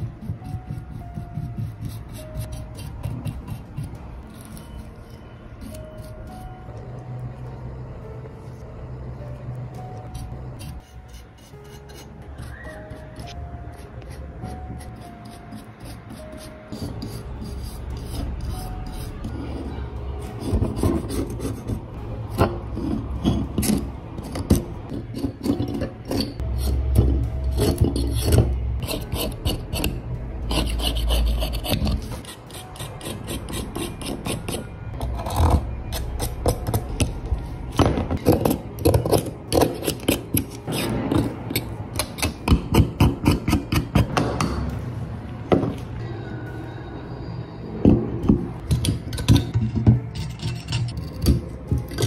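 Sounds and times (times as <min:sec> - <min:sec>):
knife blade scraping metal: 0:00.0 - 0:06.6, 0:10.2 - 0:37.0, 0:38.3 - 0:44.1, 0:48.8 - 0:52.0.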